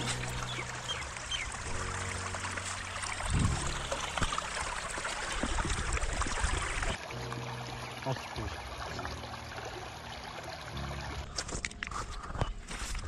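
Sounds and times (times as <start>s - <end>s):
river water trickling over stones: 0.0s - 13.0s.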